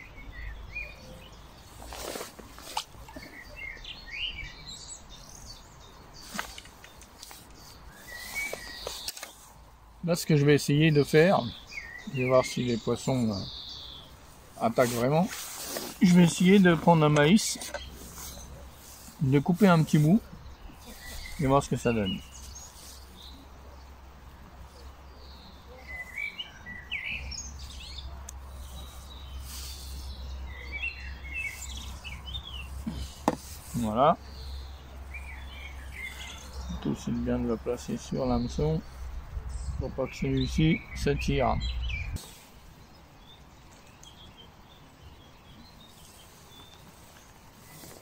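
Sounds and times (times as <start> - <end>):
bird song bursts: 0.0 - 48.0
songbirds chirping: 0.0 - 48.0.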